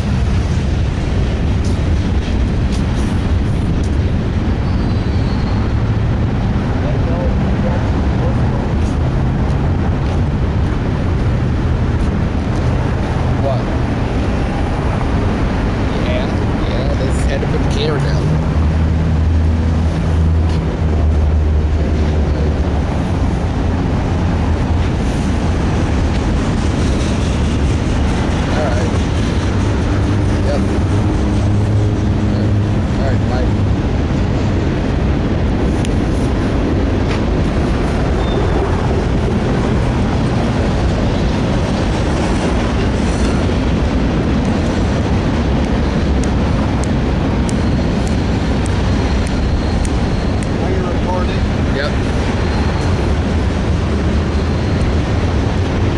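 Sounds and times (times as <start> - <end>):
diesel engine drone: 0.0 - 55.9
rumble of rolling train: 0.0 - 55.9
wind on microphone: 0.0 - 55.9.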